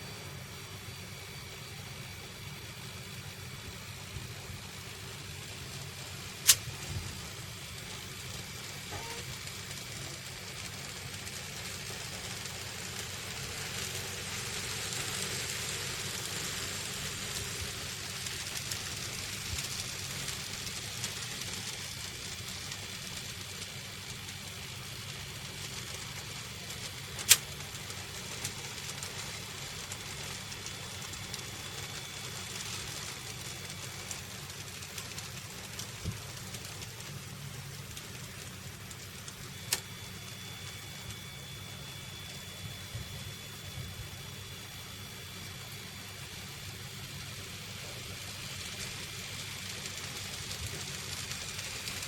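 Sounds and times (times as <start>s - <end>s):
model trains whirring and rattling: 0.0s - 52.0s.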